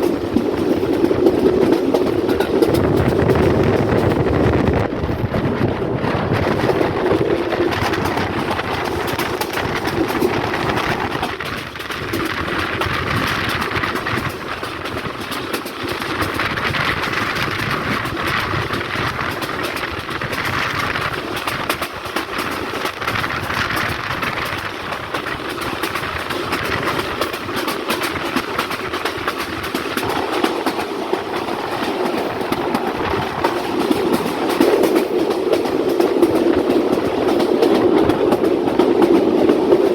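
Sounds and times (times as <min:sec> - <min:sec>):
train rumbling: 0:00.0 - 0:39.9
wheels clacking over rail joints: 0:00.0 - 0:39.9.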